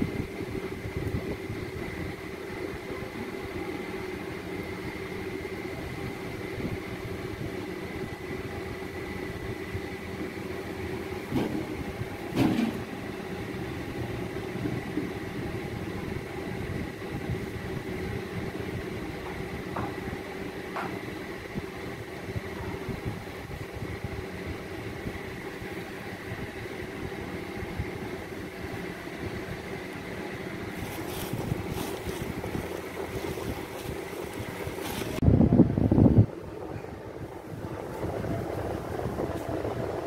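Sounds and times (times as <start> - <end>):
mechanical hum with high whine: 0.0 - 40.0.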